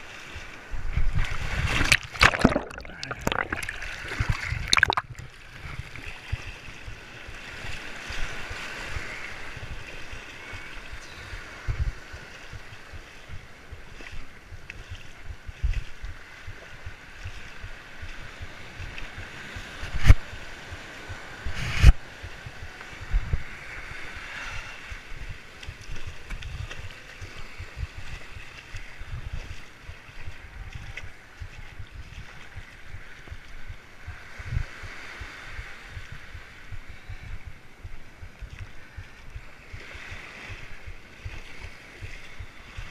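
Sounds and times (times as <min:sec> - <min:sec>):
small waves washing over sand: 0:00.0 - 0:42.9
wind buffeting microphone: 0:00.0 - 0:42.9.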